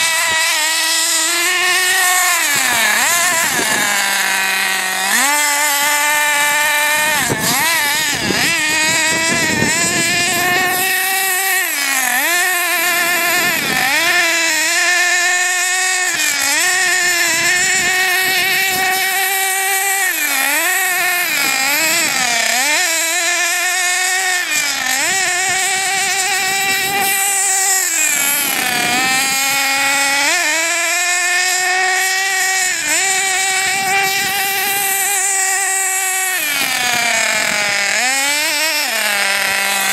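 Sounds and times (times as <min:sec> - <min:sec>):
small nitro engine revving: 0:00.0 - 0:39.9.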